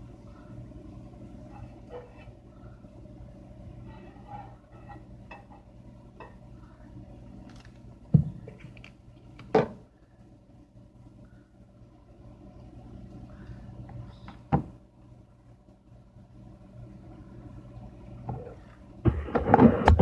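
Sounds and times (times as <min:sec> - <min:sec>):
low appliance hum: 0:00.0 - 0:20.0.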